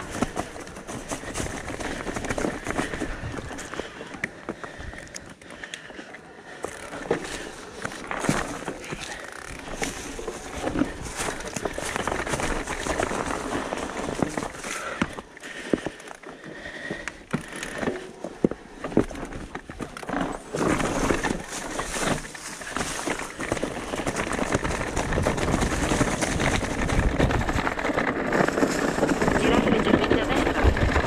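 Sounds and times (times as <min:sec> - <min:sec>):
bike knocking and rattling: 0:00.0 - 0:31.0
bike tyres rolling on loose rock: 0:00.0 - 0:31.0.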